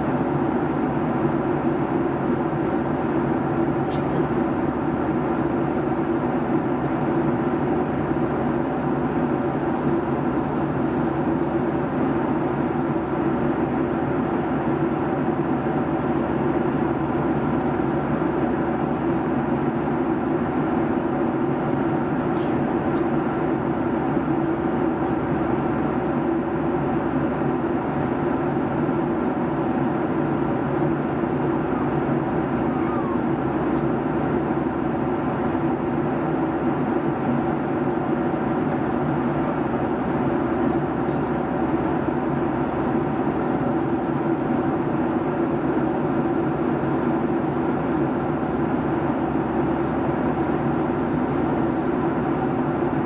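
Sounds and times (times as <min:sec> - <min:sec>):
jet engines humming: 0:00.0 - 0:53.0.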